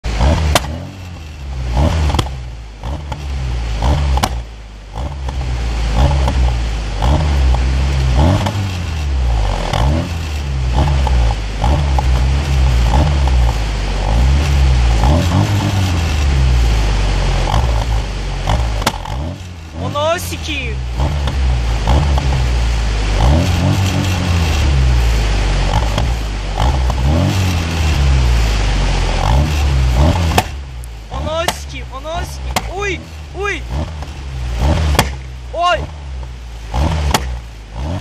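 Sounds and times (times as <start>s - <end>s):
car engine revving: 0.0s - 38.0s
sharp exhaust cracks: 0.0s - 38.0s.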